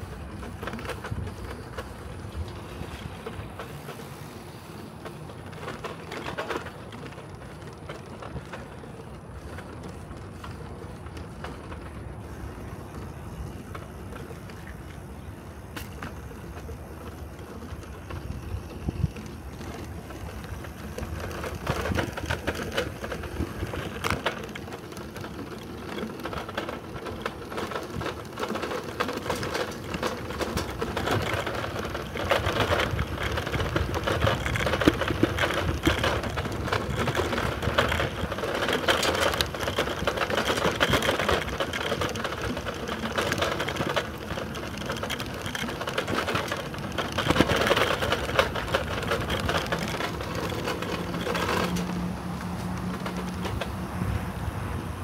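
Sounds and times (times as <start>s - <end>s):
bicycle frame and basket rattling: 0.0s - 54.2s
bicycle tyres on brick paving: 0.0s - 55.0s.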